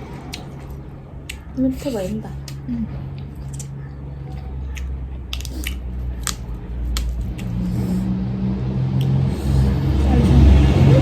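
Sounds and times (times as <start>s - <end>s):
low motor hum: 0.0s - 11.0s
wet chewing with mouth clicks: 0.1s - 10.8s.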